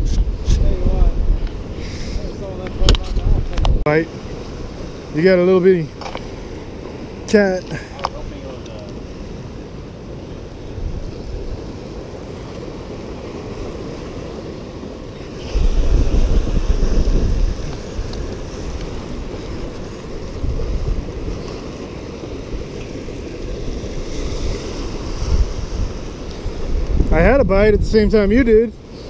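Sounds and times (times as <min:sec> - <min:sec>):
surf washing against rocks: 0:00.0 - 0:29.0
wind rumbling on microphone: 0:00.0 - 0:29.0.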